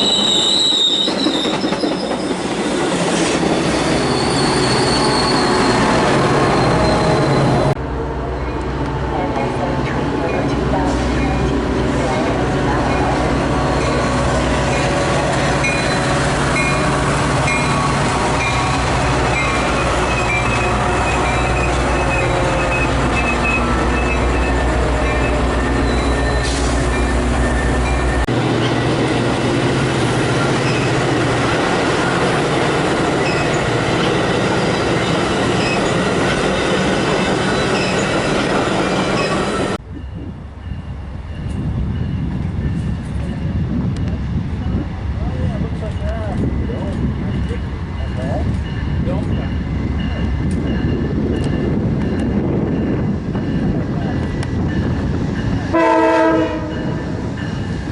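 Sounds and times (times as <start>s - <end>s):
train rolling on rails: 0.0s - 57.9s.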